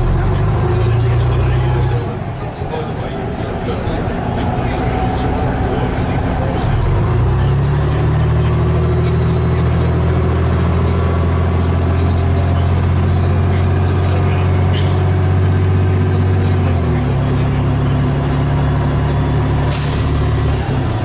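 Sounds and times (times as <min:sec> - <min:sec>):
diesel bus engine droning: 0:00.0 - 0:21.0.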